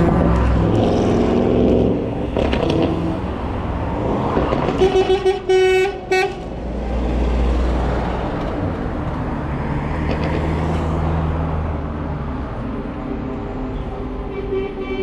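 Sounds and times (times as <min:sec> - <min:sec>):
truck diesel engines rumbling: 0:00.0 - 0:15.0.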